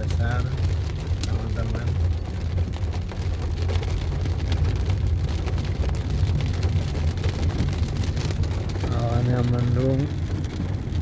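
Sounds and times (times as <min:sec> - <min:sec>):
raindrops ticking on a surface: 0:00.0 - 0:11.0
steady low rumble: 0:00.0 - 0:11.0.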